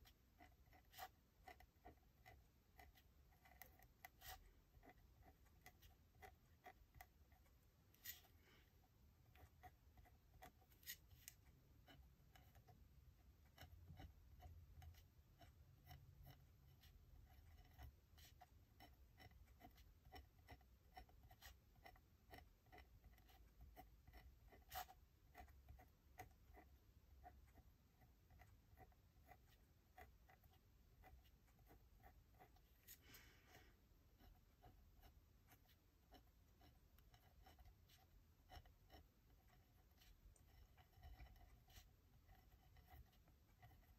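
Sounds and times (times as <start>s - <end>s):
pencil scratching on paper: 0.0s - 43.9s.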